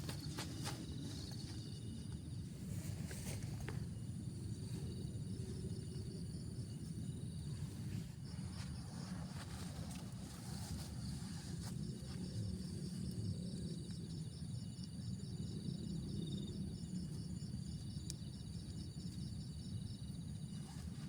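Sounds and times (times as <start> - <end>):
insect chirping: 0.0 - 21.0
low rumbling background noise: 0.0 - 21.0.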